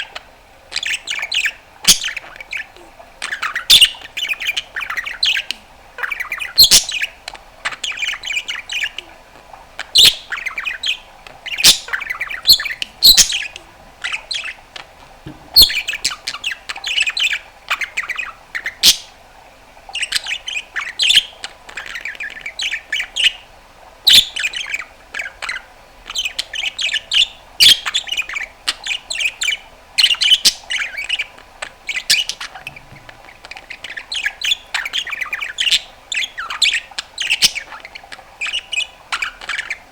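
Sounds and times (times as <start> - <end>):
budgerigar chattering: 0.0 - 19.2, 24.1 - 39.9.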